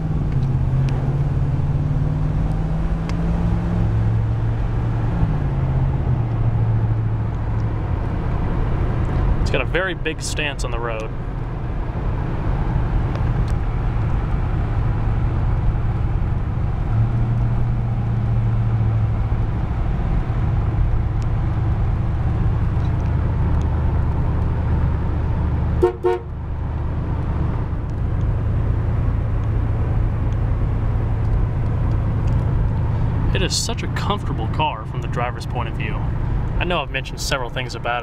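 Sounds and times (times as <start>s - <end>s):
car engine cruising drone: 0.0s - 38.0s.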